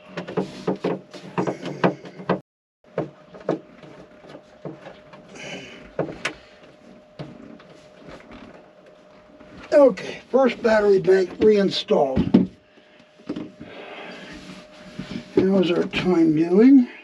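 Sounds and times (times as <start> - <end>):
faint steady hum: 2.9 - 17.0.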